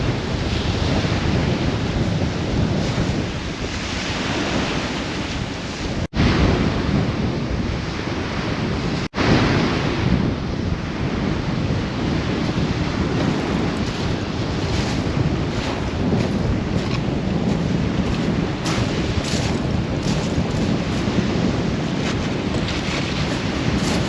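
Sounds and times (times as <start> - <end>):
waves breaking on shore: 0.0 - 24.0
wind buffeting microphone: 0.0 - 24.0.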